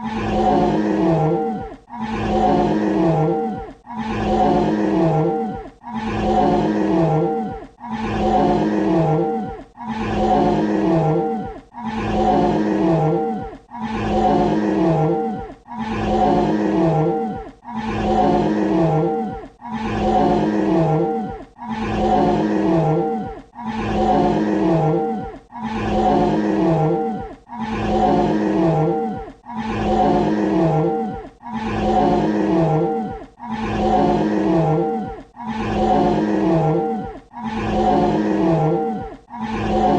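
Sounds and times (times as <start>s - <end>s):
dinosaur growling roar: 0.0s - 39.9s.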